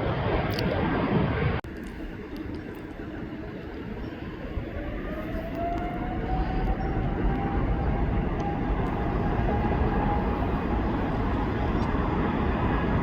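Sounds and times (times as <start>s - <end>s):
jet engines spooling up: 0.0s - 13.0s.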